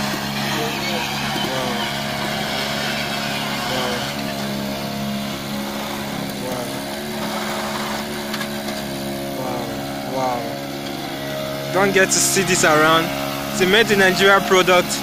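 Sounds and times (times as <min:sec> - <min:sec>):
mini excavator motor humming: 0:00.0 - 0:15.0.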